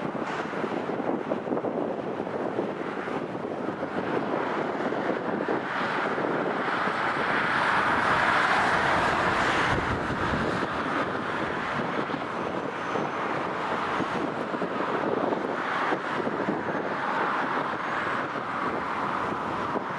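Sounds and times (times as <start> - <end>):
wind buffeting microphone: 0.0 - 19.9
jet engine rushing: 3.0 - 19.9.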